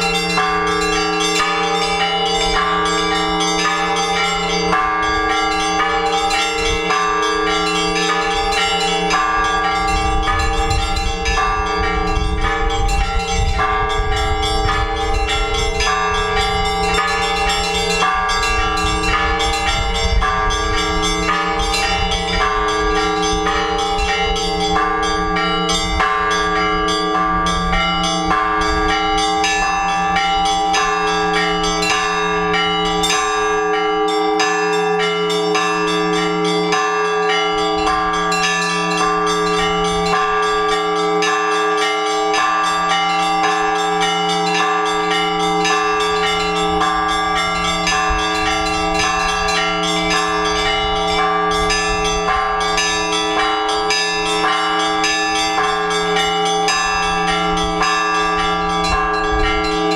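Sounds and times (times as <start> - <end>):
church bells ringing in a peal: 0.0 - 59.9.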